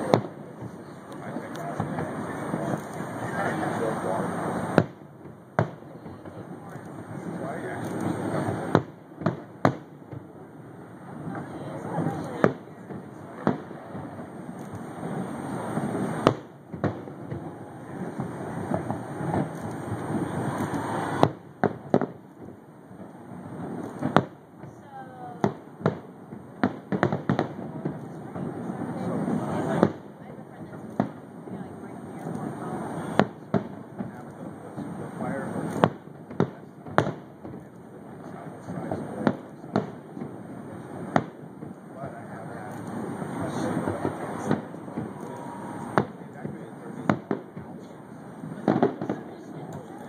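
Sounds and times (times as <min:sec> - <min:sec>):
distant firework bangs: 0:00.0 - 0:50.0
rumbling crackle of fireworks: 0:00.0 - 0:50.0.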